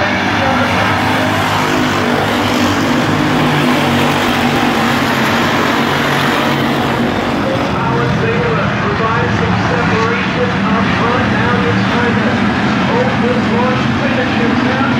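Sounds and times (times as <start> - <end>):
race car engines droning: 0.0 - 14.9.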